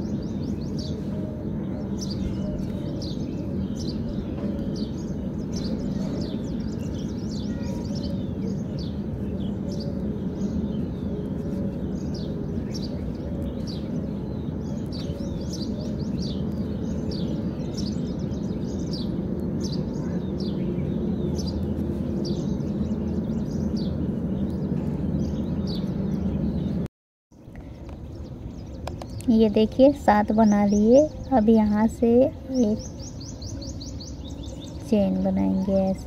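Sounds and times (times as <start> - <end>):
low background hum: 0.0 - 36.0
small birds chirping: 0.0 - 36.0.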